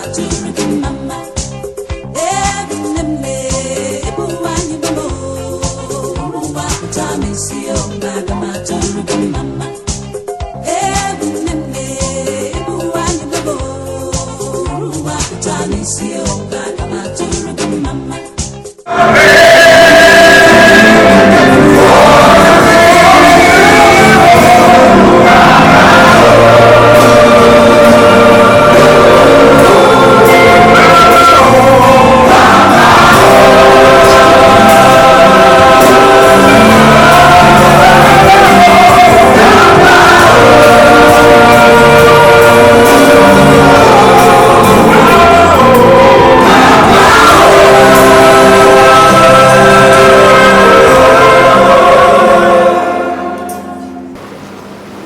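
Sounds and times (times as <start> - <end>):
choir singing gospel music: 0.0 - 54.2.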